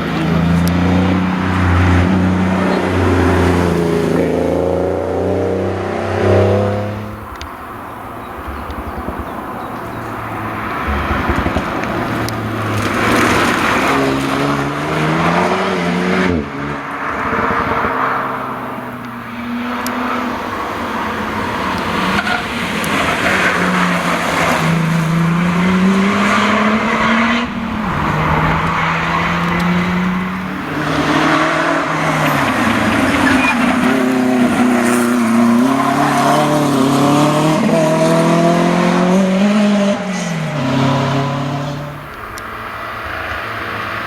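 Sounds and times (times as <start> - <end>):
rally car engines at full throttle: 0.0 - 44.0.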